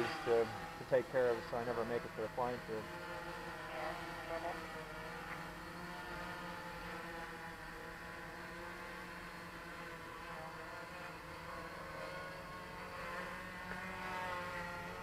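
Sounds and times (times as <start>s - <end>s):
drone propellers buzzing hum: 0.0s - 15.0s.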